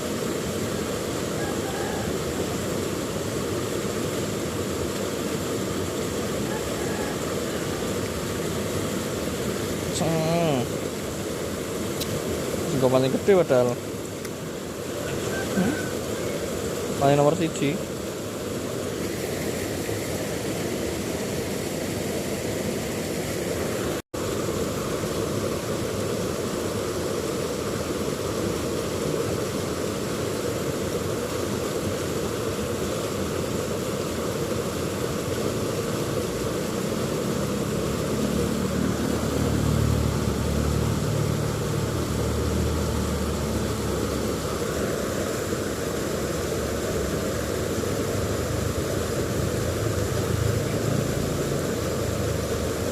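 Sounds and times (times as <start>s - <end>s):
river water flowing over rocks: 0.0s - 52.9s.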